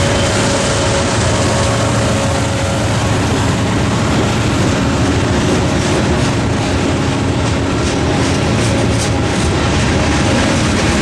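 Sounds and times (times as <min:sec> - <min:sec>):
diesel locomotive engine hum: 0:00.0 - 0:11.0
freight cars rolling: 0:00.0 - 0:11.0.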